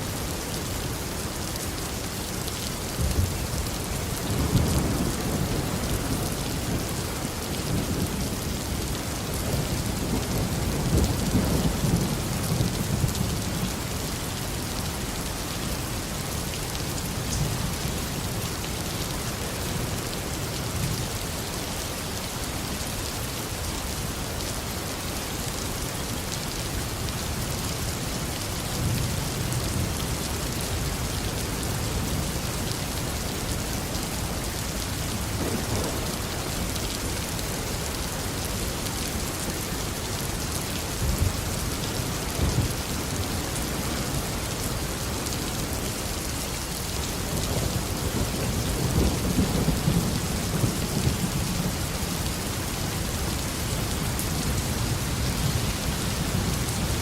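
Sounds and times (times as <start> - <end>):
heavy rain falling on a garden: 0.0 - 57.0.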